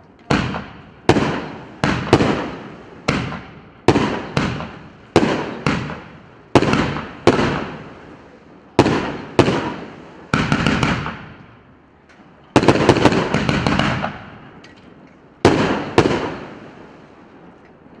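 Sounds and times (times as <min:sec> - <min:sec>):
fireworks crackling: 0:00.0 - 0:18.0
fireworks bangs: 0:00.1 - 0:17.9.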